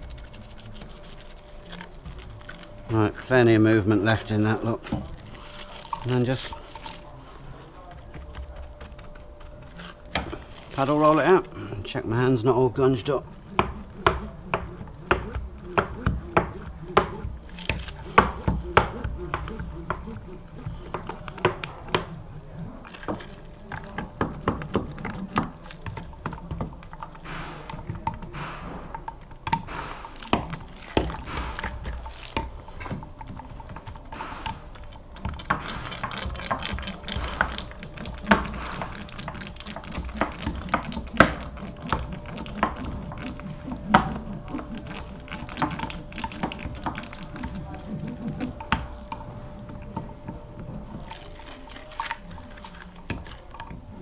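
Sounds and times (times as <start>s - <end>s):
roller clicking on wet fibreglass: 0.0s - 11.5s, 12.3s - 54.0s.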